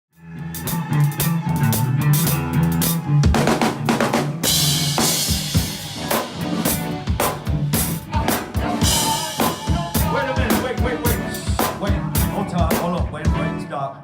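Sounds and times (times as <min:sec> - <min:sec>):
live rock band playing: 0:00.2 - 0:13.8.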